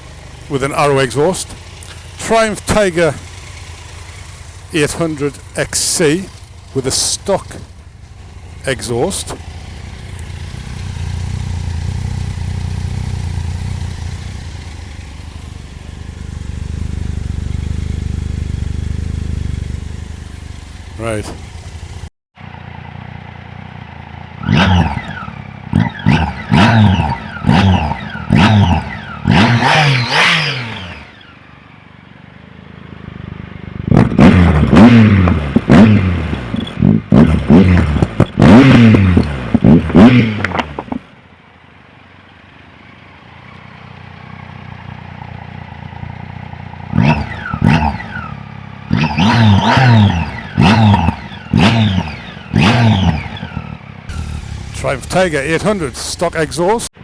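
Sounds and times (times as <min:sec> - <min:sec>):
motorcycle engine idling: 0:00.0 - 0:29.4, 0:30.7 - 0:34.0, 0:37.8 - 0:57.0
motorcycle engine revving: 0:00.0 - 0:57.0.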